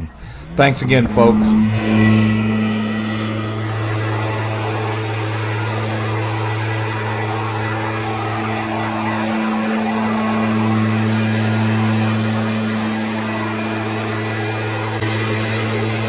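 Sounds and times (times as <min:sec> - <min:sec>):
motor drone with hiss: 0:00.0 - 0:16.0.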